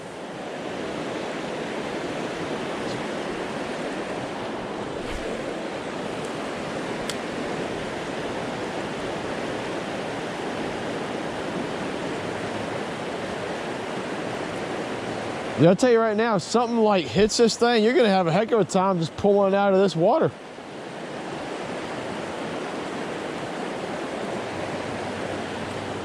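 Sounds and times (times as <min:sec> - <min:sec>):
river rushing through rapids: 0:00.0 - 0:26.0.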